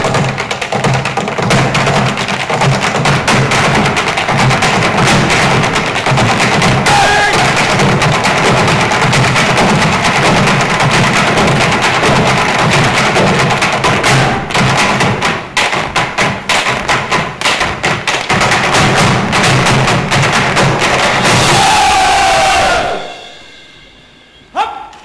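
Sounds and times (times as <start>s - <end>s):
hard-shoe dancers tapping: 0.0s - 21.7s
sharp stamps: 0.0s - 21.7s.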